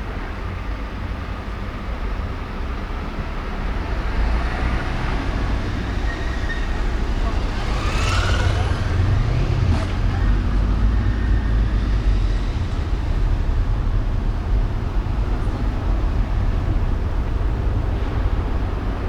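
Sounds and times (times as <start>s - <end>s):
car road and engine rumble: 0.0s - 19.0s
city traffic: 0.0s - 19.0s.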